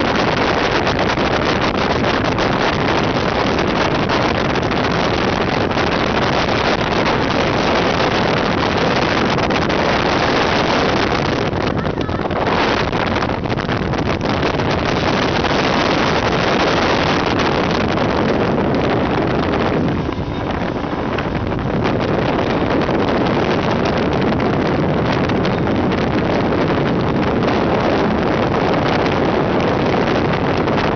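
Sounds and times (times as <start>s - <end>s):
speedboat engine running: 0.0s - 30.9s
wind buffeting microphone: 0.0s - 30.9s.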